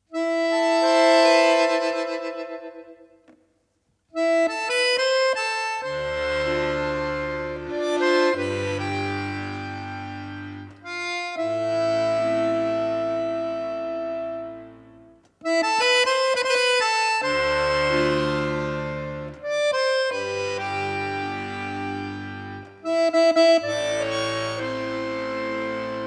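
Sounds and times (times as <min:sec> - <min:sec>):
accordion-like reed instrument music: 0:00.0 - 0:03.4, 0:04.1 - 0:26.0.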